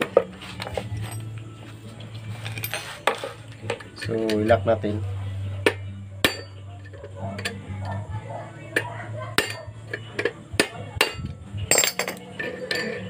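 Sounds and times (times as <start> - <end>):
hand tools clinking on metal: 0.0 - 1.4, 2.3 - 4.7, 5.6 - 8.0, 8.7 - 13.0.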